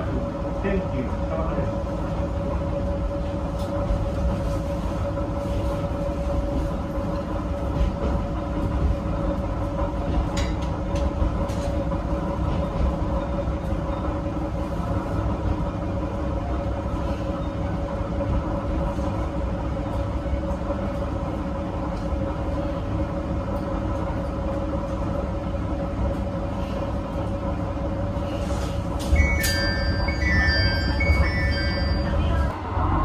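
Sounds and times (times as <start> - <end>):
diesel railcar engine drone: 0.0 - 33.0
wheels rumbling on rails: 0.0 - 33.0.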